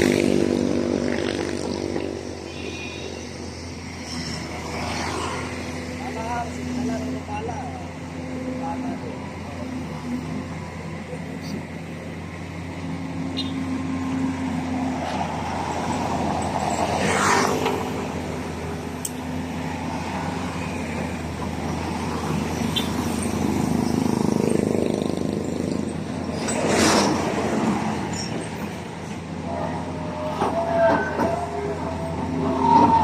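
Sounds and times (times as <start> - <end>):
road noise: 0.0 - 33.0
truck engine hum: 0.0 - 33.0.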